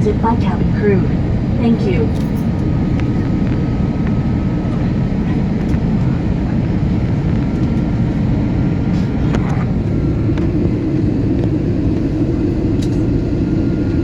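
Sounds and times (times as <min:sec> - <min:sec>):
faint high hum: 0:00.0 - 0:13.1
jet engine and airflow rumble: 0:00.0 - 0:14.0.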